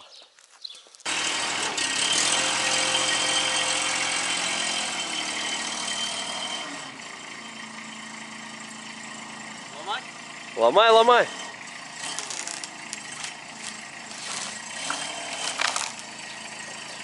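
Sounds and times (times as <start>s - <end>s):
tractor engine running: 1.0s - 17.0s.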